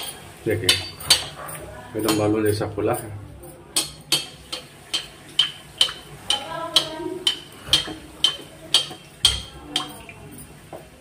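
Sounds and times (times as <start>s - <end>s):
spoon clinking on metal pan: 0.0s - 10.2s.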